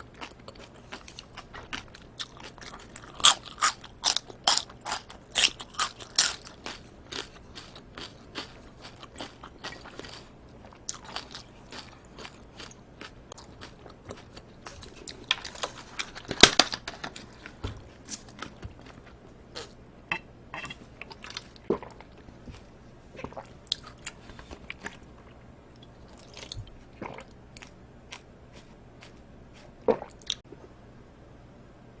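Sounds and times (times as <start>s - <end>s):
wet chewing and crunching: 0.0s - 19.8s, 20.7s - 30.4s.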